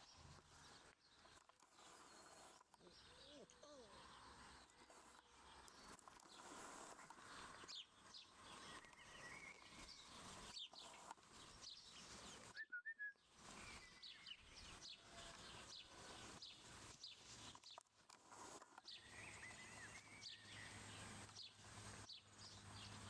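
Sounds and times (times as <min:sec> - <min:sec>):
faint outdoor ambience: 0:00.0 - 0:23.0
small birds chirping: 0:00.0 - 0:23.0.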